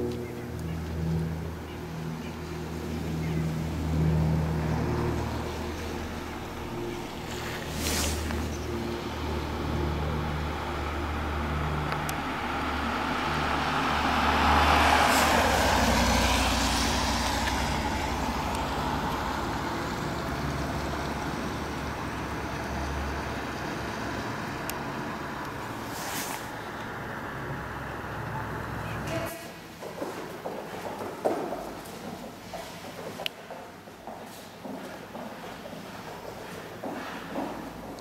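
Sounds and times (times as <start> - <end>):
car passing on road: 0.0 - 33.2.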